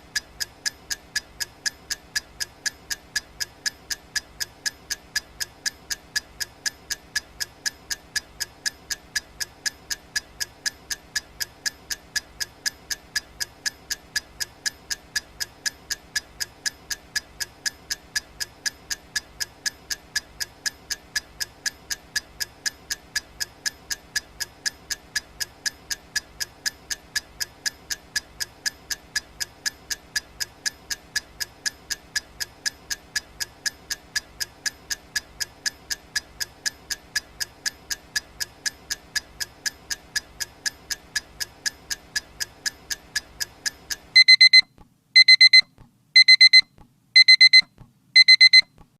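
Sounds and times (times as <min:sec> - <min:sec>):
clock ticking: 0:00.0 - 0:48.9.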